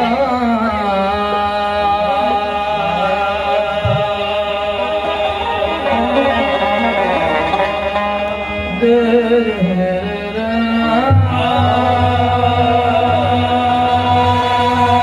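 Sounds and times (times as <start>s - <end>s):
deeper accompaniment: 0.0s - 15.0s
instrumental drone: 0.0s - 15.0s
man singing long wavering notes: 0.0s - 15.0s.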